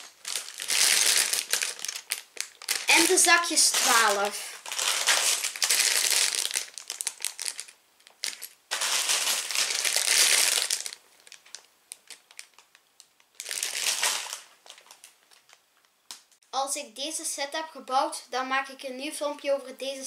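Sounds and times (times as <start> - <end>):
plastic bags crinkling: 0.0 - 16.4.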